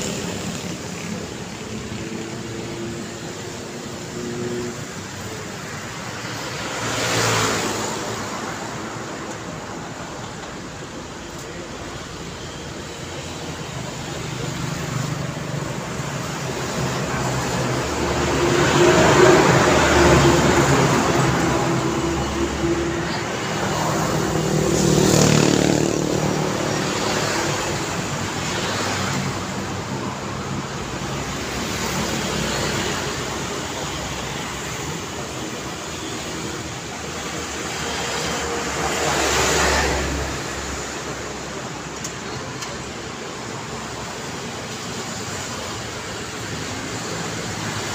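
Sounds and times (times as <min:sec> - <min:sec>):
cars passing: 0:00.0 - 0:47.9
steady traffic hum: 0:00.0 - 0:47.9.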